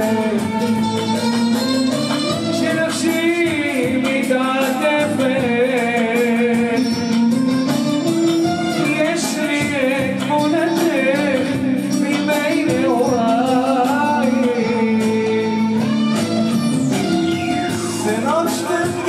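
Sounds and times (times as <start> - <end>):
man singing into a microphone: 0.0 - 7.7, 8.6 - 19.0
loud amplified backing music: 0.0 - 19.0.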